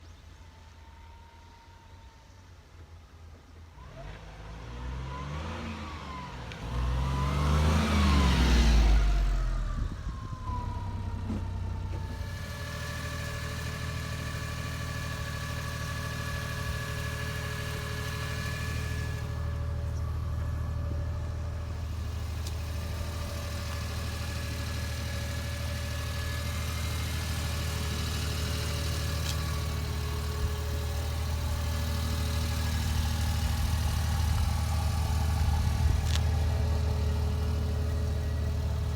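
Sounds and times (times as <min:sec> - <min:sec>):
small engine revving and idling: 0:03.6 - 0:38.9.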